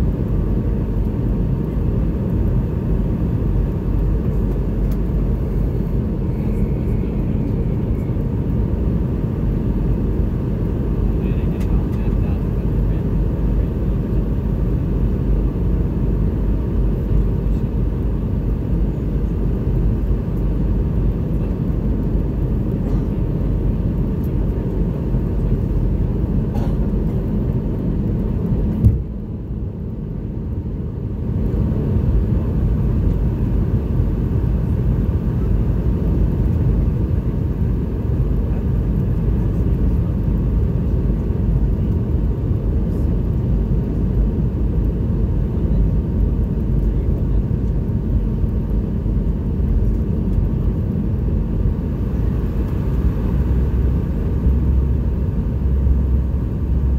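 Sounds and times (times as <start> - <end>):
jet cabin engine rumble: 0.0 - 56.9.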